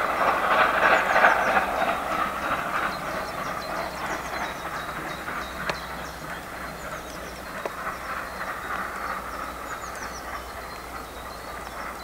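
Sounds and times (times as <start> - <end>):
steam train running: 0.0 - 12.0.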